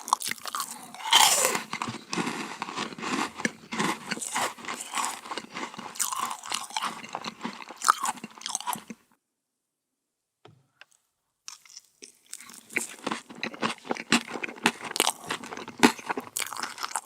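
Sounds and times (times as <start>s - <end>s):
crunchy biting and chewing: 0.0s - 9.0s, 11.5s - 17.0s.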